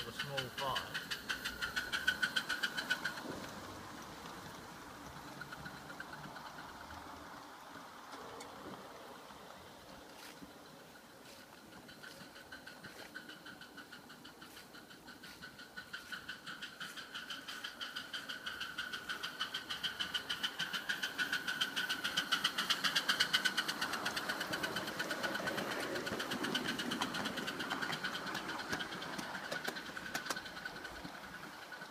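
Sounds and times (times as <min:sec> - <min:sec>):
steam locomotive chuffing: 0:00.0 - 0:31.9.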